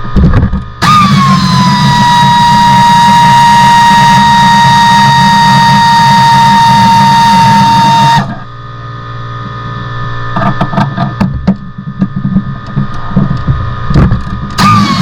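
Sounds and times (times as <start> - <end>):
loud mechanical whine: 0.0 - 15.0.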